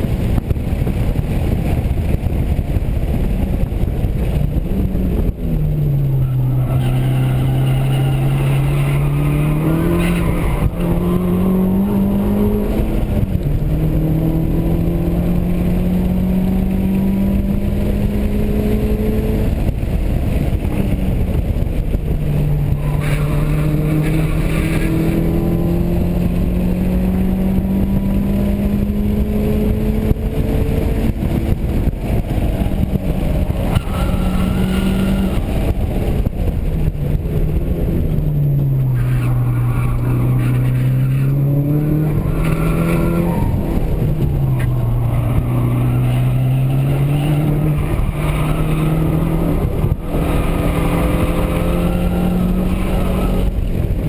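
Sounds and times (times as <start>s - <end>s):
car engine revving under hard driving: 0.0s - 54.0s.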